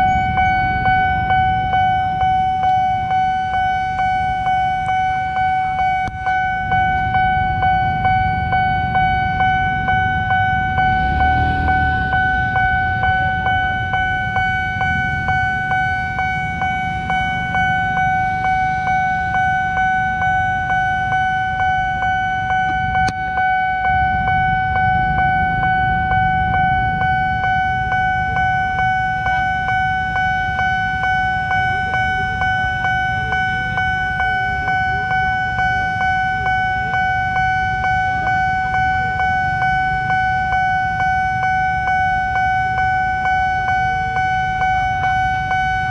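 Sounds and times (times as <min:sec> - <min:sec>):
level crossing warning bell: 0:00.0 - 0:45.9
motorbike engines idling: 0:00.0 - 0:45.9.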